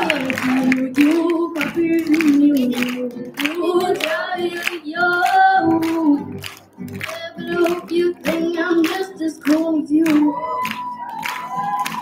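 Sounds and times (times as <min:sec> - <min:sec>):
girl singing into a microphone: 0:00.0 - 0:06.4, 0:07.0 - 0:11.7.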